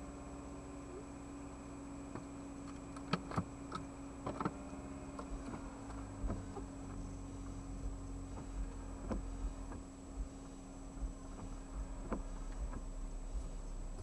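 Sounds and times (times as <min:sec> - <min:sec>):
steady low hum: 0:00.0 - 0:14.0
windshield wipers rumbling: 0:00.9 - 0:14.0.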